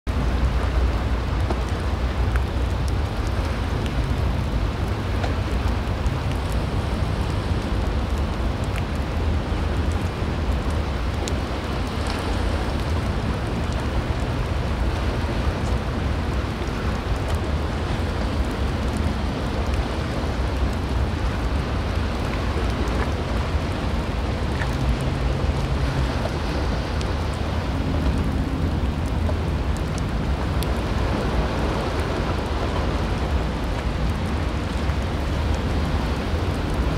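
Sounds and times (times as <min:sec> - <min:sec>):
storm wind: 0:00.1 - 0:36.9
surf washing against rocks: 0:00.1 - 0:36.9
wind rumble on microphone: 0:00.1 - 0:36.9.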